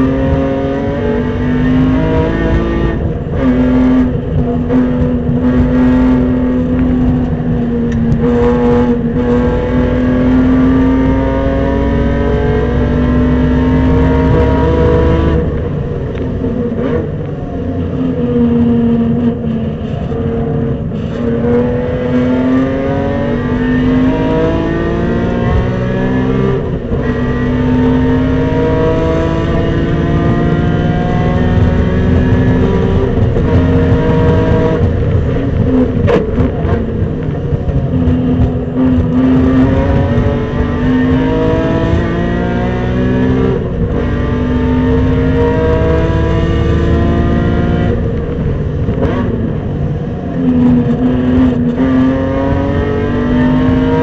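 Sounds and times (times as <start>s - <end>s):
car engine at full throttle: 0.0s - 54.0s.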